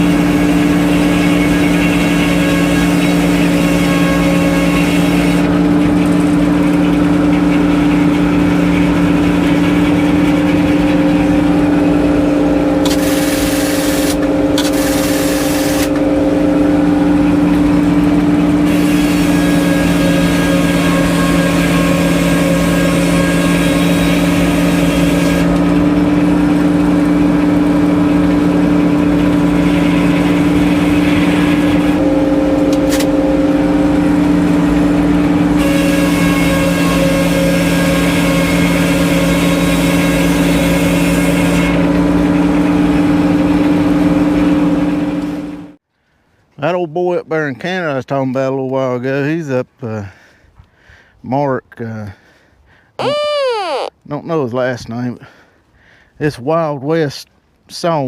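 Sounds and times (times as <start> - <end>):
sawmill engine humming: 0.0 - 45.7, 53.0 - 54.0.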